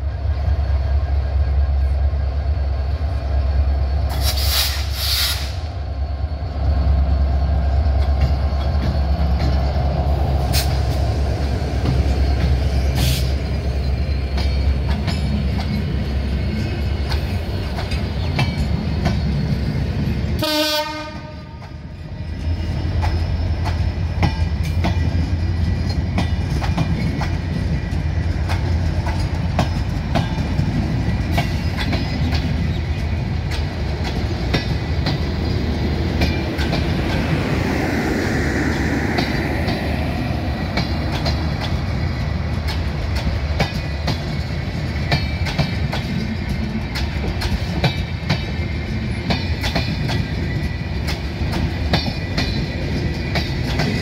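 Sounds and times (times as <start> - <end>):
diesel locomotive rumble: 0.0 - 54.0
train wheels on rails: 0.0 - 54.0.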